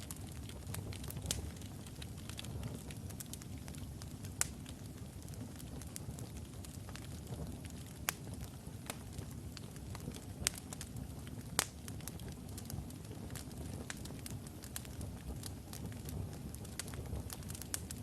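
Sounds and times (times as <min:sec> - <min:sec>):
fire crackles and pops: 0:00.0 - 0:18.0
logs burning in fireplace: 0:00.0 - 0:18.0.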